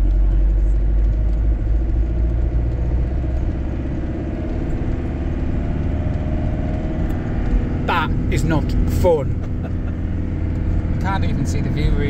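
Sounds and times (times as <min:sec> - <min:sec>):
engine and road noise in cab: 0:00.0 - 0:12.0.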